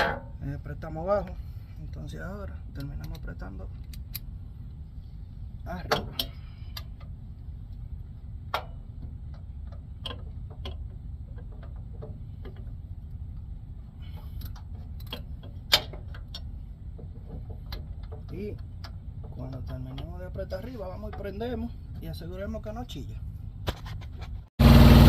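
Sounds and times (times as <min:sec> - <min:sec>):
steady low rumble: 0:00.0 - 0:23.7.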